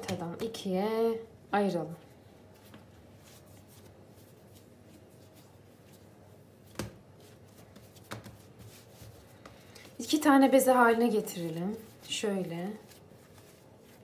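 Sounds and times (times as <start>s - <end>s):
hands kneading bread dough: 0.0s - 14.0s.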